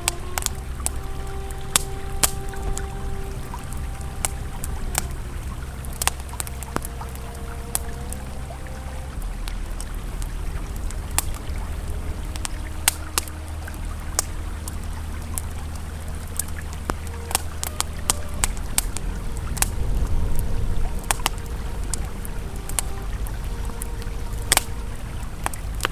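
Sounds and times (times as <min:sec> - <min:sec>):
campfire crackling and popping: 0:00.0 - 0:25.9
river flowing: 0:00.0 - 0:25.9
soft ambient tones: 0:00.0 - 0:25.9.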